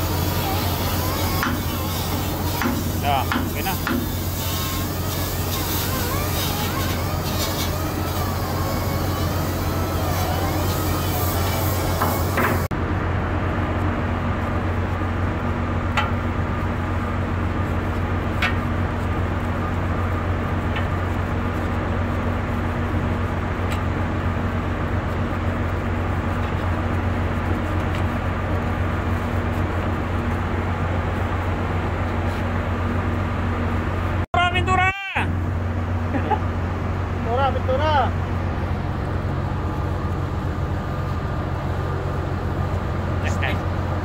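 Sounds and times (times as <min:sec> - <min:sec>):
ship machinery humming: 0:00.0 - 0:44.0.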